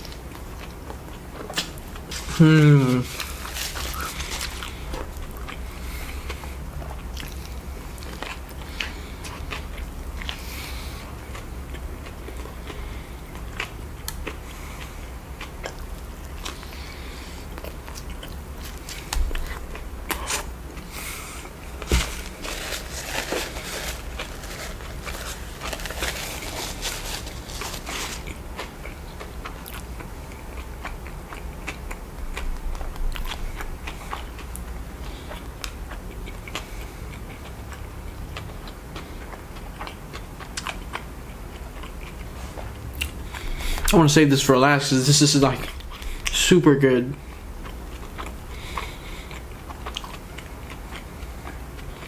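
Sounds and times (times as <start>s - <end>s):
person chewing with mouth smacks: 0.0s - 44.0s, 47.1s - 52.0s.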